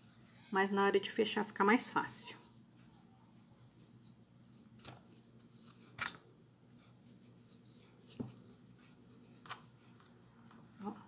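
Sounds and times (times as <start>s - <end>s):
low steady hum: 0.0s - 11.0s
faint fabric rustles: 1.6s - 11.0s.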